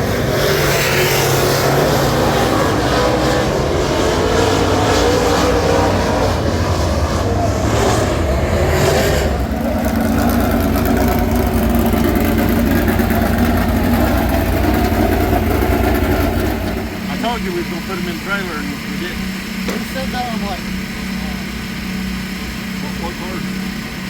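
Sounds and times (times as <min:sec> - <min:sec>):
race car engine running hard: 0:00.0 - 0:24.0.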